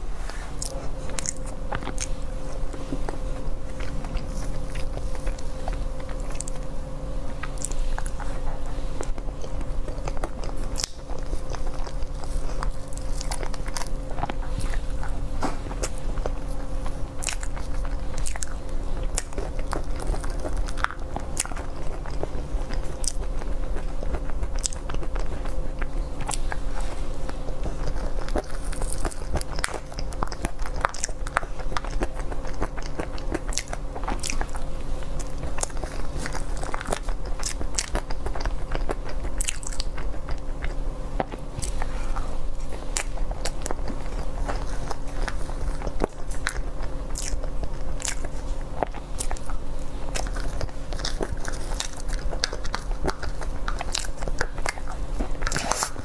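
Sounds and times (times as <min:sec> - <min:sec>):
chewing and biting: 0:00.0 - 0:56.0
steady low hum: 0:00.0 - 0:56.0.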